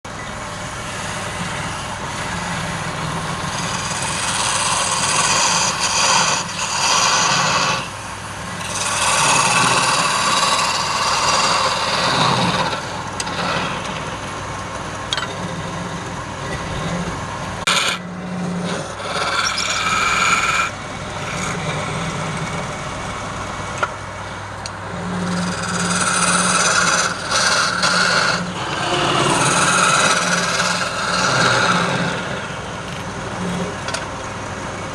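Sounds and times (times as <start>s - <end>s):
wood lathe humming: 0.1s - 33.8s
tool scraping spinning wood: 0.7s - 14.2s, 15.2s - 23.9s, 24.9s - 34.0s.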